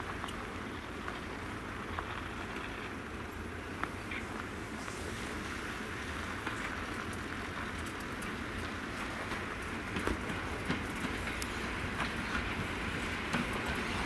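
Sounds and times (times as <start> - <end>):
train rolling noise: 0.0 - 14.0.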